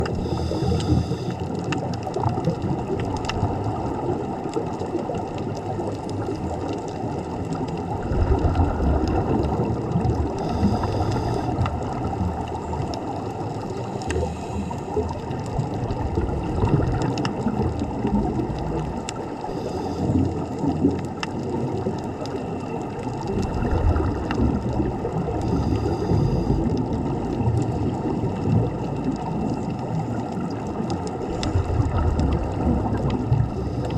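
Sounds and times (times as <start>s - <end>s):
churning gurgling water: 0.0s - 33.9s.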